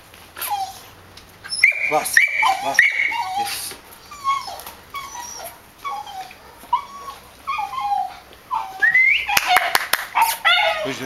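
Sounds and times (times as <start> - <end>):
puppy whining: 0.4 - 11.0.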